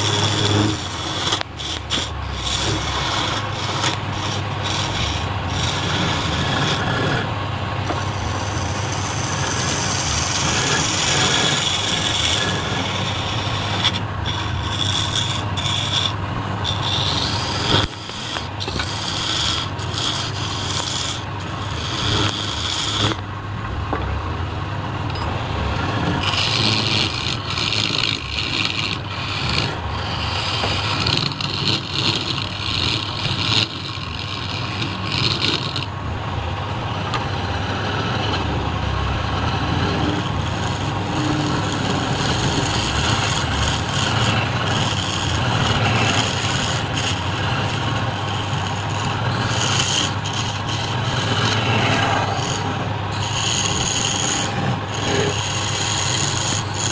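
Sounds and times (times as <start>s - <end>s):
chisel scraping spinning wood: 0.0s - 24.2s, 24.8s - 56.9s
lathe humming: 0.0s - 56.9s.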